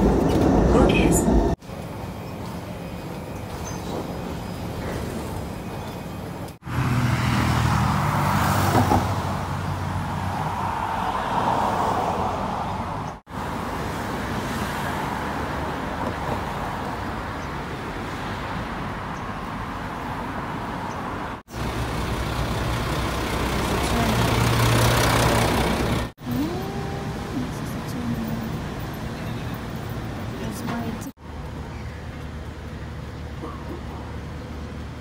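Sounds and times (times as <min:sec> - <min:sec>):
cars and buses passing: 0:00.0 - 0:35.0.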